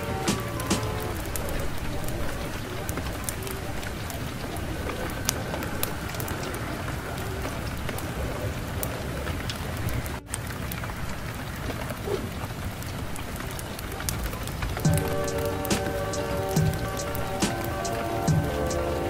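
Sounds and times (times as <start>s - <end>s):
rain drop clicks: 0.0s - 19.0s
steady rain hiss: 0.0s - 19.0s.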